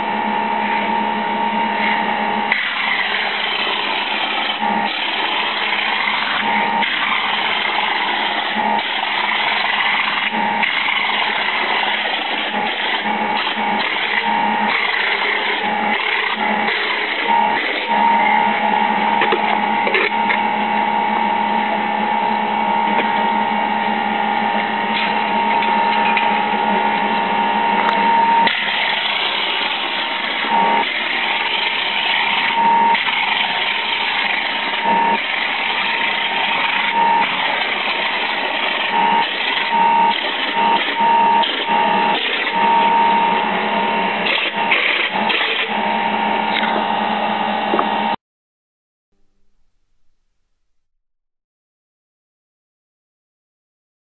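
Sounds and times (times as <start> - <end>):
air compressor running: 0.0 - 48.2.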